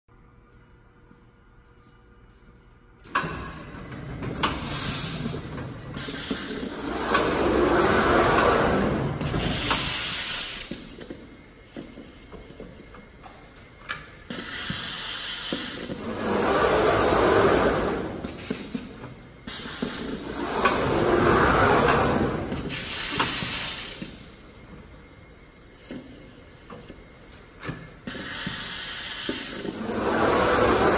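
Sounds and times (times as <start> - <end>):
machine drives whirring: 3.1 - 30.9.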